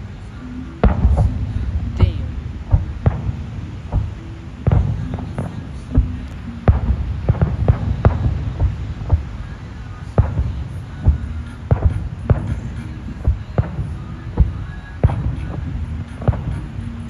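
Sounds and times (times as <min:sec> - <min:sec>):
distant fireworks booming: 0:00.7 - 0:17.0.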